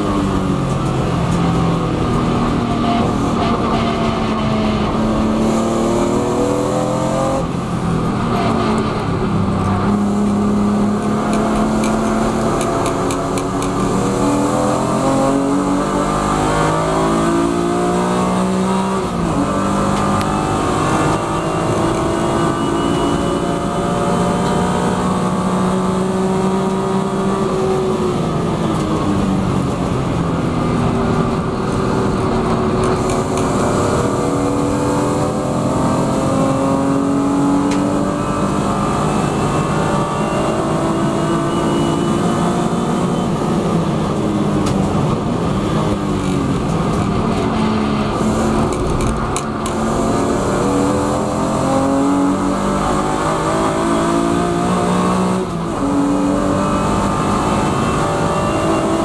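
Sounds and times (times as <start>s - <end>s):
racing car engine at full throttle: 0.0s - 59.0s
wind and road noise: 0.0s - 59.0s.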